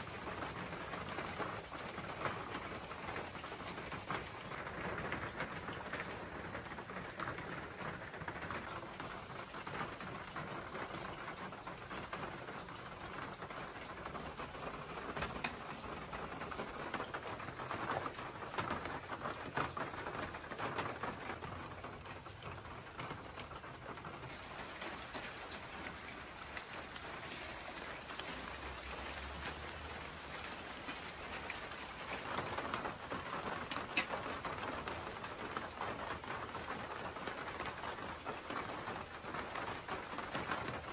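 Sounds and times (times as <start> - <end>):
rain pattering on paving: 0.0 - 40.9.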